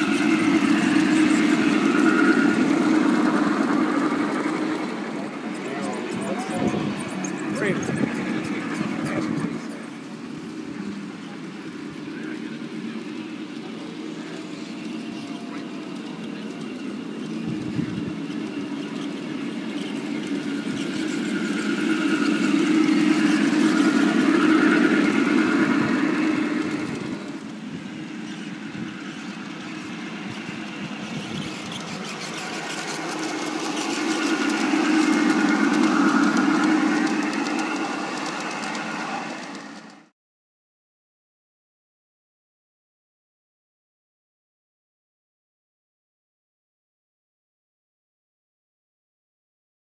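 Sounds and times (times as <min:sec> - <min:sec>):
train running on track: 0:00.0 - 0:40.1.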